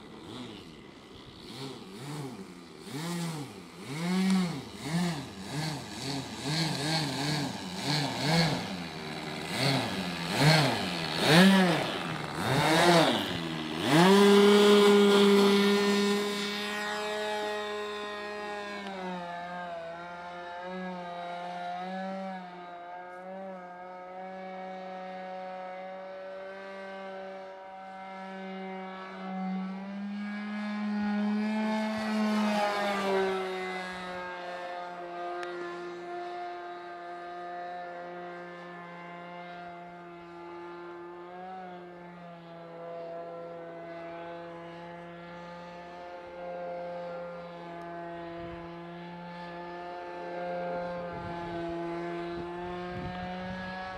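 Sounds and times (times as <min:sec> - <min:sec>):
model airplane engine: 0:00.0 - 0:53.9.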